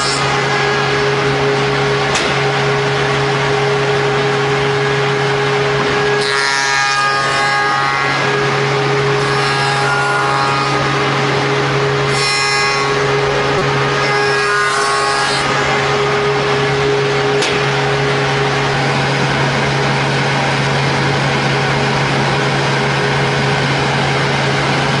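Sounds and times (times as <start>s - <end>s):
high whine of cutter: 0.0s - 25.0s
machine motor hum: 0.0s - 25.0s.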